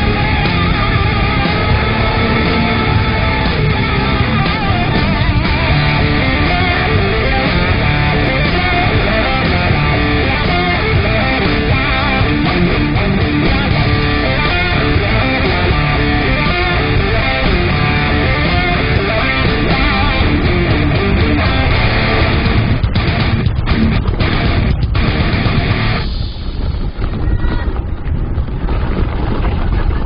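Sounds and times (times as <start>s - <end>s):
rock music with electric guitar: 0.0s - 26.6s.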